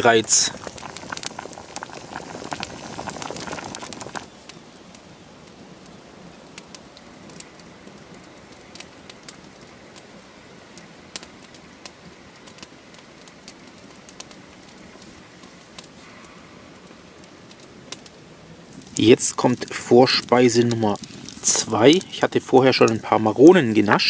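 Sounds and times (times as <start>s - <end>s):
campfire pops and snaps: 0.0s - 5.6s, 6.4s - 24.0s
low hiss of burning wood: 0.0s - 24.0s.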